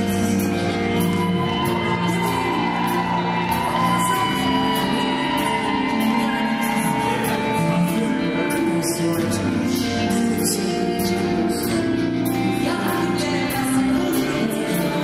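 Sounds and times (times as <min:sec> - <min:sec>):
live pop band music: 0:00.0 - 0:15.0.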